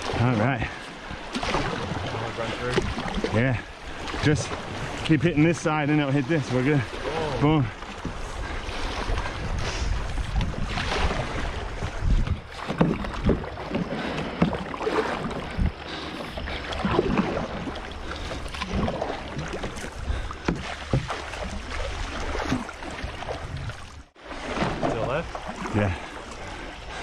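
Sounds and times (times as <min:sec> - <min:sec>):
paddle blades splashing: 0:00.0 - 0:27.0
wind rumbling on microphone: 0:01.5 - 0:27.0.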